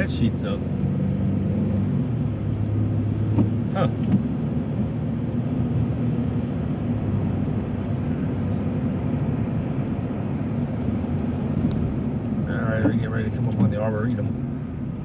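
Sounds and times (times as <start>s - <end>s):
car road noise on wet pavement: 0.0s - 15.0s.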